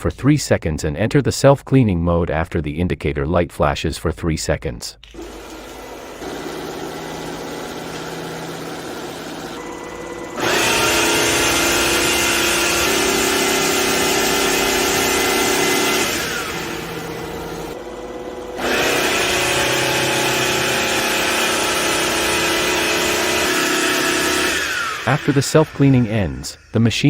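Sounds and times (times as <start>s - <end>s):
vacuum mop motor and suction: 5.1s - 26.8s.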